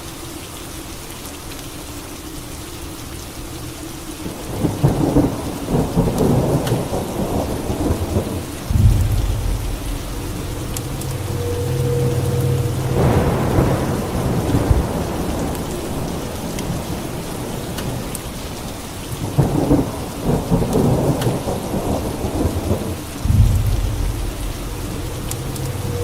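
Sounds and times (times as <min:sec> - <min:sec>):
steady rain: 0:00.0 - 0:26.0
thunder rumbling: 0:04.2 - 0:26.0.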